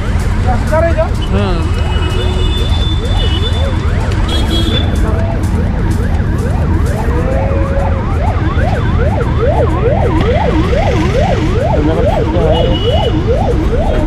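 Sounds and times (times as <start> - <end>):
low road rumble: 0.0 - 14.0
siren yelping: 1.1 - 14.0.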